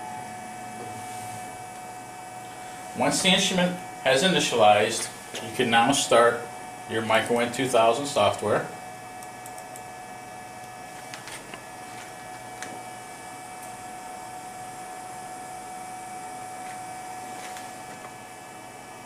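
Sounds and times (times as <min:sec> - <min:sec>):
machine hum with steady tone: 0:00.0 - 0:19.0.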